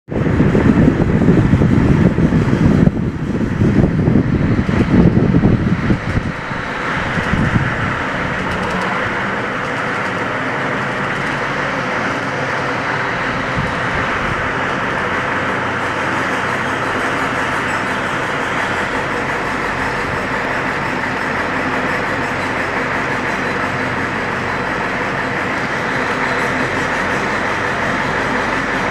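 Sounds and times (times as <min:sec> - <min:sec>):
truck drivetrain running: 0:00.1 - 0:28.9.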